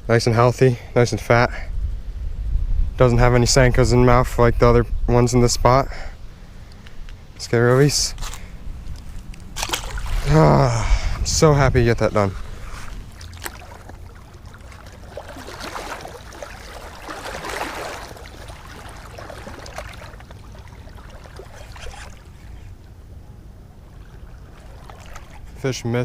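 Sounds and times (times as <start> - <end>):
wind rumble on microphone: 0.9 - 26.0
soft water sounds: 3.2 - 26.0.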